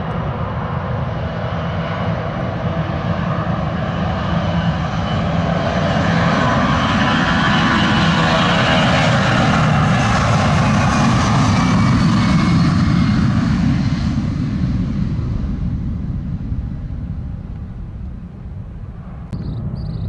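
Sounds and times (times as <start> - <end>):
high engine whine: 0.0 - 20.0
jet engines at takeoff power: 0.0 - 20.0.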